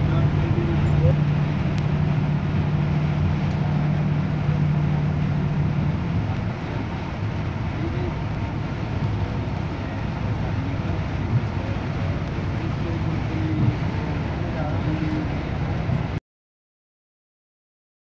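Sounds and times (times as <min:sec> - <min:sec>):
coach engine drone: 0:00.0 - 0:16.2
tyre noise on wet road: 0:00.0 - 0:16.2.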